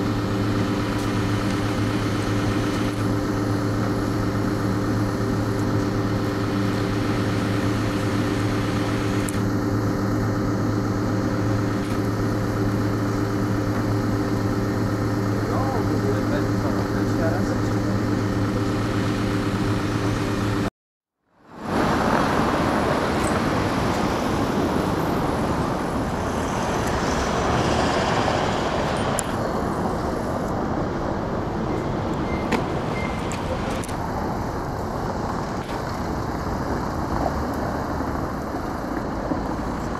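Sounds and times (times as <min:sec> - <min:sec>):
diesel engine hum: 0:00.0 - 0:20.7, 0:21.3 - 0:39.9
traffic and machinery rumble: 0:00.0 - 0:39.9.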